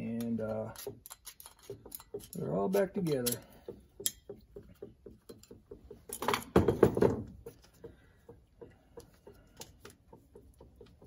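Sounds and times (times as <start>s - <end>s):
metal parts rustling and knocking: 0.0s - 11.0s.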